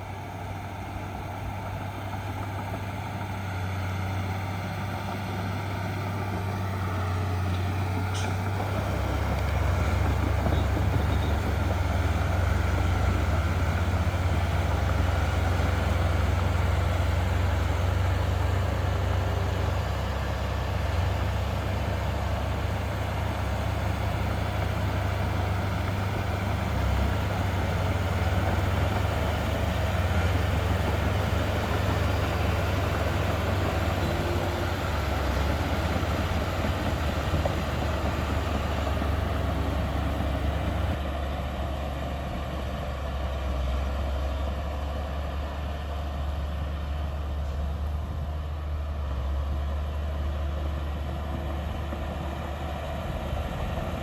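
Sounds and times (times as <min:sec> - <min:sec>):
heavy diesel machinery engine drone: 0:00.0 - 0:54.0.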